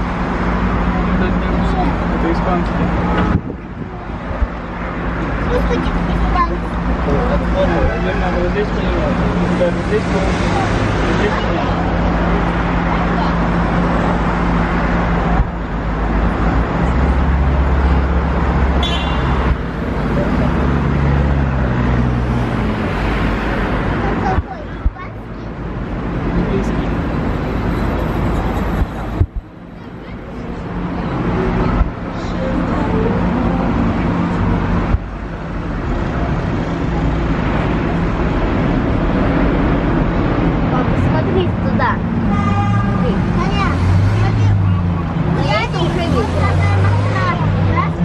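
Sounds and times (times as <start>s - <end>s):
bus engine humming: 0.0s - 48.0s
road and traffic noise: 0.0s - 48.0s.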